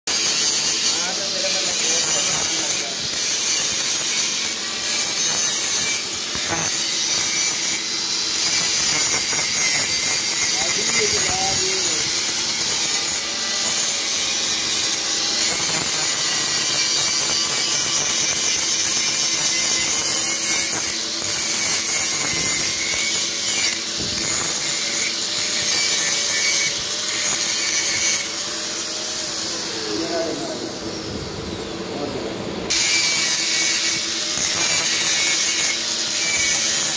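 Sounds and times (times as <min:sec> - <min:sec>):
angle grinder grinding steel: 0:00.1 - 0:31.2, 0:32.7 - 0:36.9.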